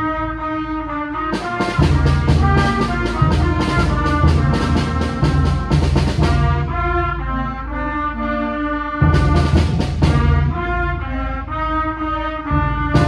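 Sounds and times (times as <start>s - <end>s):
wind band playing: 0.0s - 13.0s.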